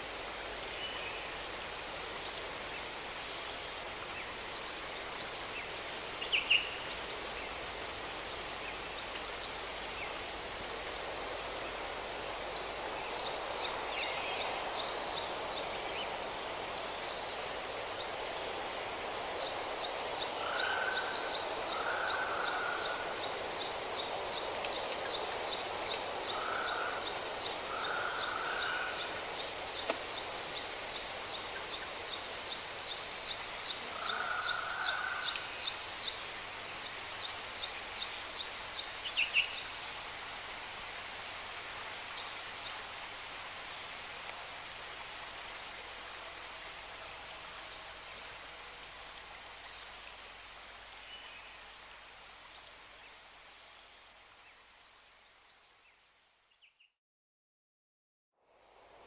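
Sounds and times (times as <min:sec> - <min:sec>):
steady outdoor hiss: 0:00.0 - 0:56.9, 0:58.4 - 0:59.0.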